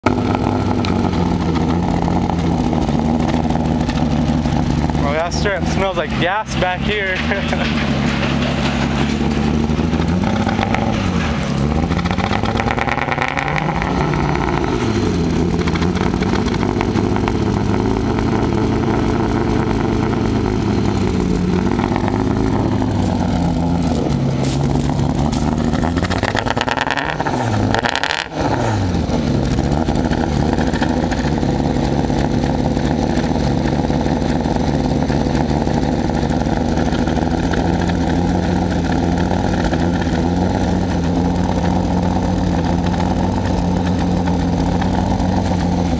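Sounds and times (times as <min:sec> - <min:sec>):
car engine misfiring and revving: 0:00.0 - 0:45.9.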